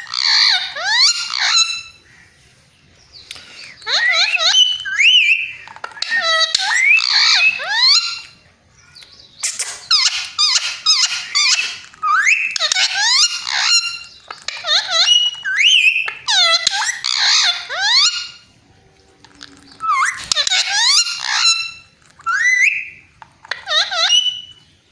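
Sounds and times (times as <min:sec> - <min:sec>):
parrot chattering and whistling: 0:00.0 - 0:02.0, 0:03.7 - 0:08.4, 0:09.0 - 0:18.5, 0:19.2 - 0:24.7.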